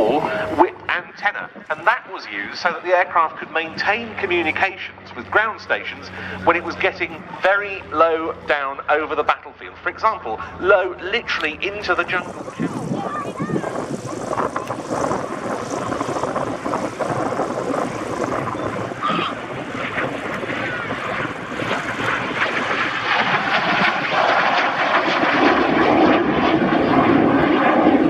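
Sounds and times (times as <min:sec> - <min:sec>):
propeller plane flying past: 0:00.0 - 0:28.0.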